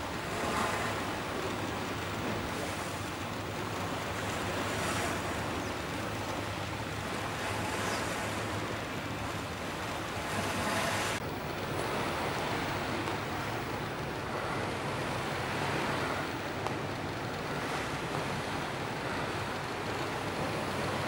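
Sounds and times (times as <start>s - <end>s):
waves: 0.0s - 21.0s.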